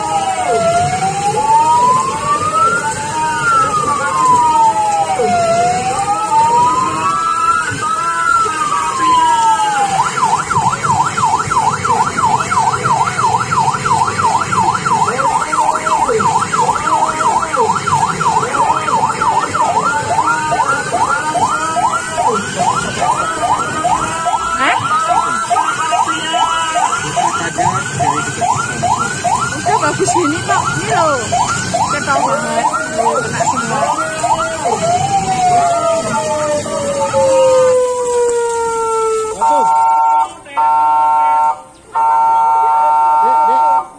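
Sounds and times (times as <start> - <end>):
electronic siren yelping: 0.0 - 43.9.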